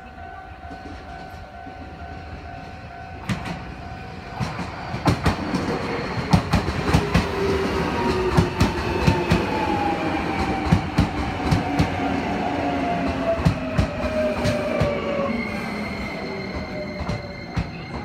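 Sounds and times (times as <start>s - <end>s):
train rolling rumble: 0.0s - 18.0s.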